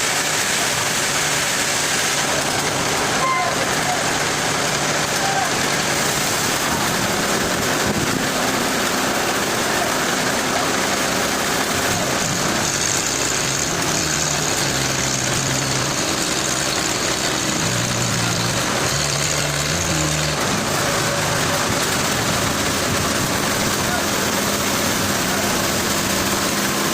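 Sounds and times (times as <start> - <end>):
heavy machine engine humming: 0.0 - 26.9
loud rushing noise: 0.0 - 26.9.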